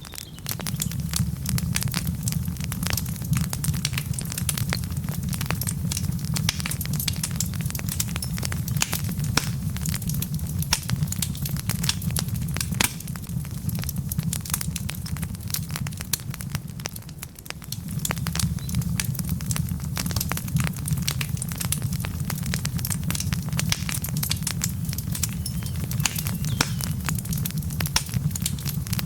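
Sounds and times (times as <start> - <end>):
wood fire crackling and popping: 0.0 - 29.0.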